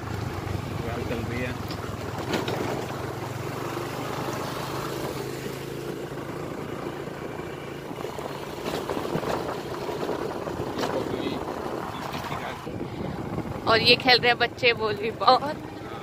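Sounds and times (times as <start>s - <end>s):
vehicle engine running on board: 0.0s - 16.0s.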